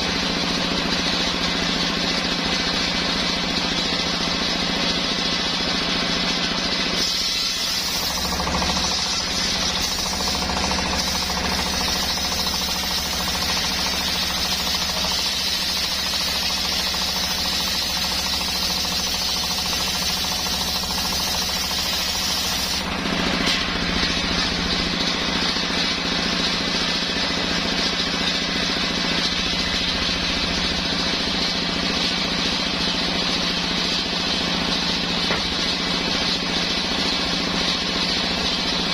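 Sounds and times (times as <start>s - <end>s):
engine-driven sawmill sawing wood: 0.0s - 38.9s.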